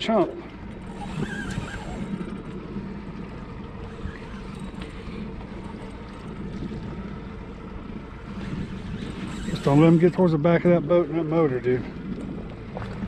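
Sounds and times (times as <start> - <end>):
outboard motor idling: 0.0 - 13.0
water noise: 0.0 - 13.0
wind: 0.0 - 13.0.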